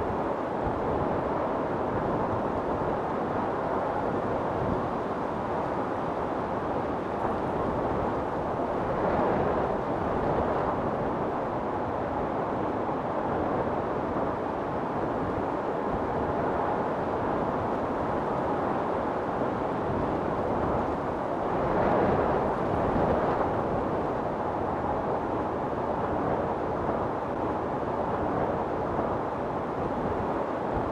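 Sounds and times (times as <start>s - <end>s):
storm wind blowing hard: 0.0s - 30.9s.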